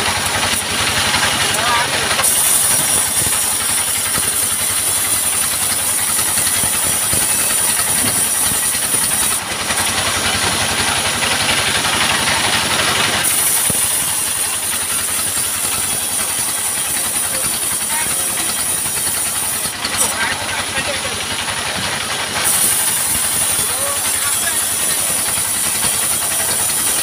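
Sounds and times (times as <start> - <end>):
high saw whine: 0.0 - 27.0
saw hissing through log: 0.0 - 27.0
sawmill engine pulsing: 0.0 - 27.0.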